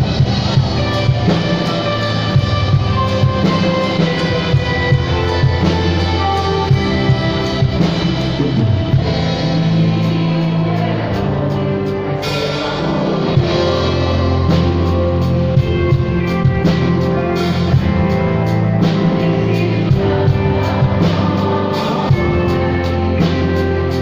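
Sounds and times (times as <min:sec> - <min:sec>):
drum kit beat: 0:00.0 - 0:24.0
guitar and bass chords: 0:00.0 - 0:24.0.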